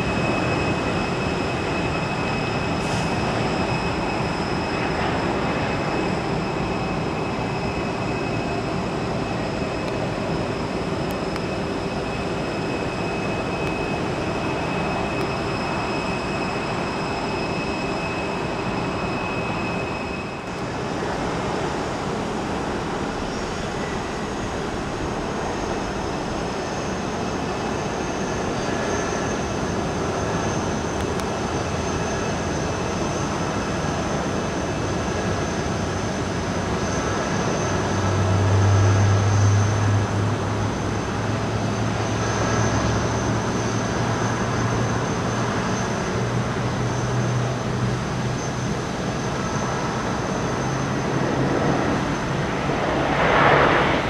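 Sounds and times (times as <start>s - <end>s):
faint high whine: 0.0s - 54.0s
jet engines running: 0.0s - 54.0s.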